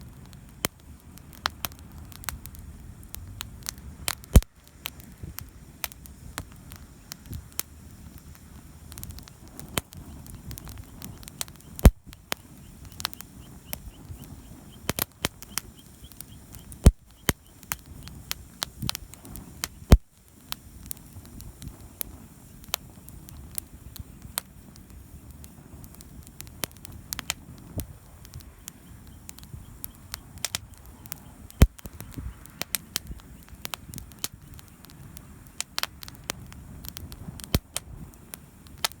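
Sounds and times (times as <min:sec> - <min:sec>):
campfire crackling and popping: 0:00.0 - 0:39.0
low rumble of burning fire: 0:00.0 - 0:39.0.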